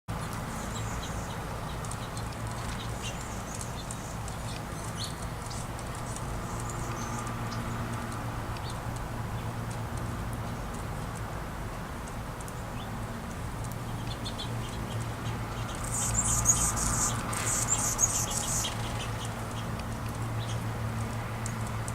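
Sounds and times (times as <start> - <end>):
songbirds chirping: 0.1 - 10.9, 11.8 - 21.9.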